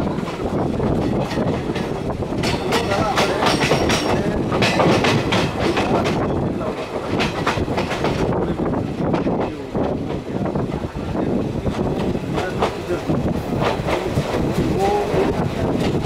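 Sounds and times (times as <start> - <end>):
wheel clacks over rail joints: 0.0 - 10.9, 11.6 - 16.0
rumble of train wheels: 0.0 - 16.0
rushing air: 0.0 - 16.0.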